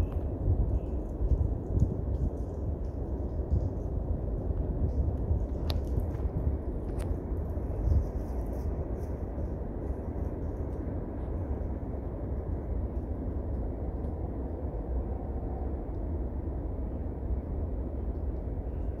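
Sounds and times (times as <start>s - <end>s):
low rumble and hiss: 0.0s - 19.0s.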